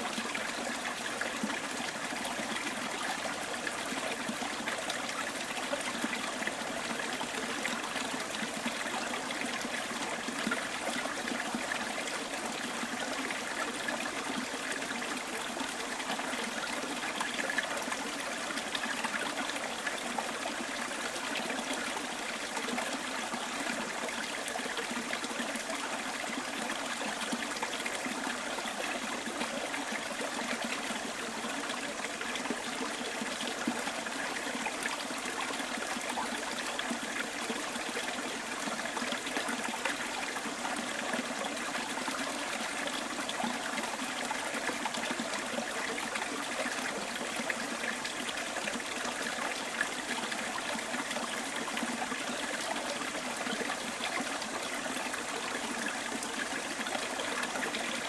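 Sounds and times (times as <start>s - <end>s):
stream trickling and burbling: 0.0s - 58.0s.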